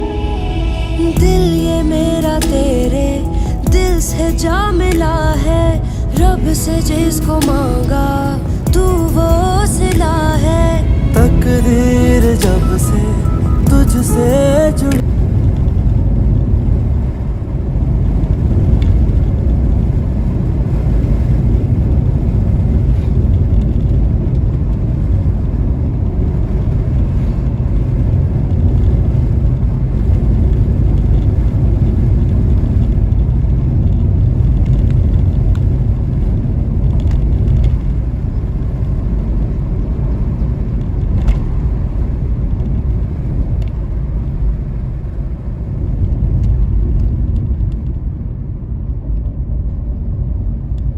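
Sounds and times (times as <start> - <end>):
car driving road rumble: 0.0 - 50.9.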